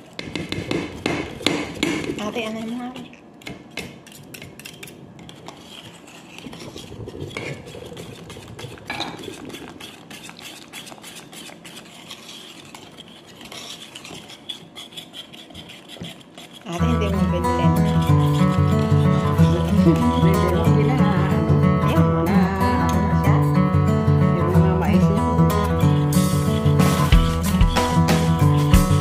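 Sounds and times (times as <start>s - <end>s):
utensil scraping metal bowl: 0.0s - 29.0s.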